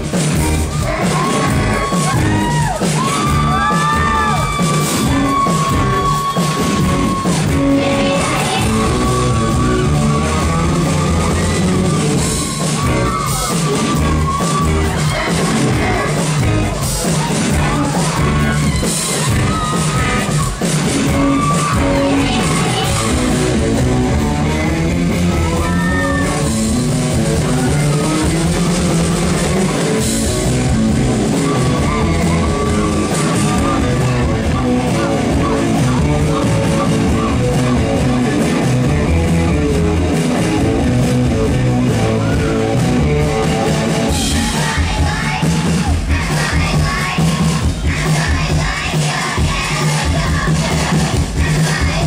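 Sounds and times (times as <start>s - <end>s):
person singing: 0.0s - 39.5s, 41.5s - 52.0s
live rock band playing: 0.0s - 52.0s.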